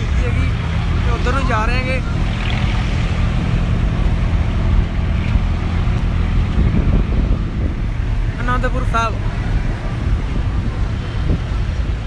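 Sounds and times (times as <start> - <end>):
tractor diesel engine running: 0.0 - 12.0
wind on microphone: 0.0 - 12.0.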